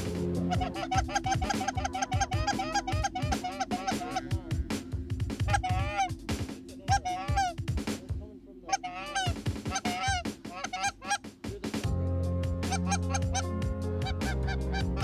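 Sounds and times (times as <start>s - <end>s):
geese honking: 0.0s - 11.8s, 12.6s - 15.0s
background music: 0.0s - 15.0s.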